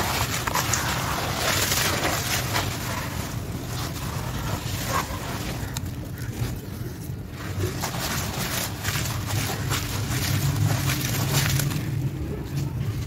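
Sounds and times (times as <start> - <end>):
hands squelching in wet slurry: 0.0 - 13.0
wet splashes and scrapes: 0.0 - 13.0.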